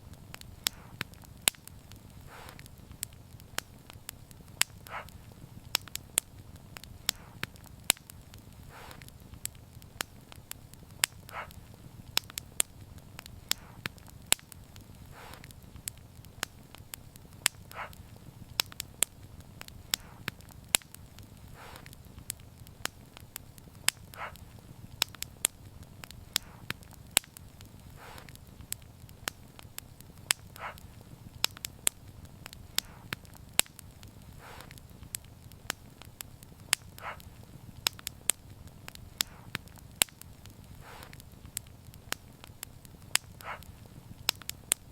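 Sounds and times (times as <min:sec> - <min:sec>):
low rumble of flame: 0:00.0 - 0:44.9
soft fire hiss: 0:00.0 - 0:44.9
wood fire popping and snapping: 0:00.0 - 0:44.9.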